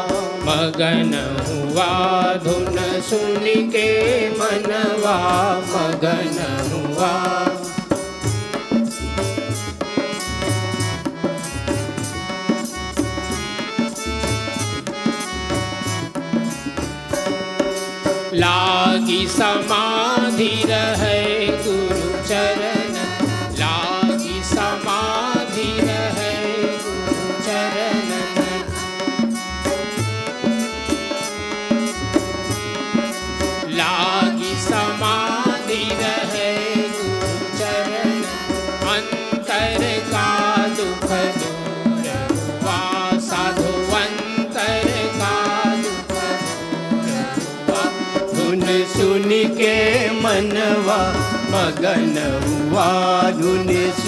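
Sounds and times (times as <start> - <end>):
harmonium melody: 0.0 - 54.0
tabla beat: 0.0 - 54.0.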